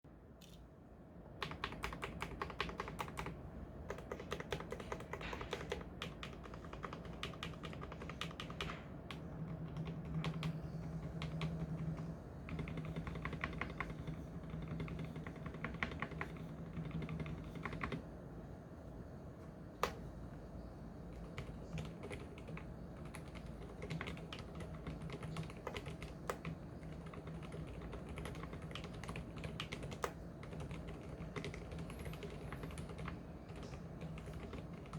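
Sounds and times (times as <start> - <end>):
typing on mechanical keyboard: 1.4 - 18.0, 21.0 - 34.9.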